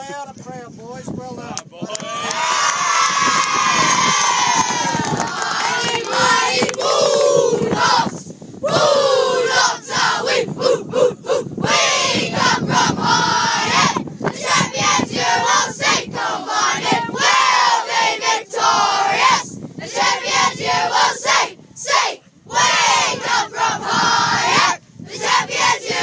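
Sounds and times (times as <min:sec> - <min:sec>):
boys singing in unison: 0:05.2 - 0:26.0.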